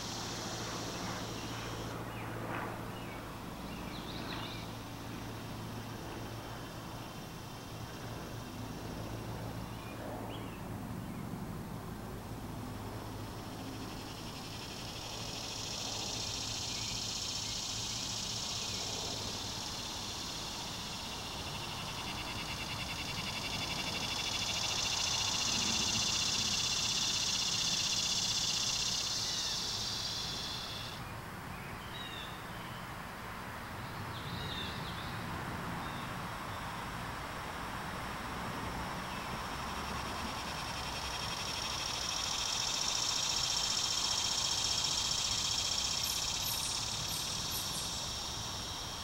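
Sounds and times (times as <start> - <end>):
high pulsing insect buzz: 0.0 - 10.6, 12.4 - 31.0, 37.3 - 49.0
low steady background hum: 0.0 - 49.0.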